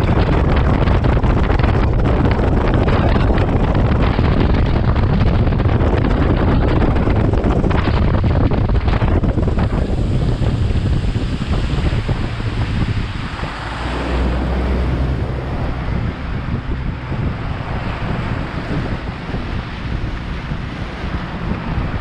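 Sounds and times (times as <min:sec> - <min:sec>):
boat motor: 0:00.0 - 0:22.0
water rushing along hull: 0:00.0 - 0:22.0
wind rushing over microphone: 0:00.0 - 0:22.0.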